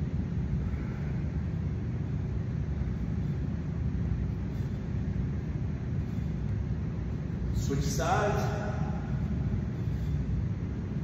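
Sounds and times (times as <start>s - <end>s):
faint steady hum: 0.0s - 11.0s
low background rumble: 0.0s - 11.0s.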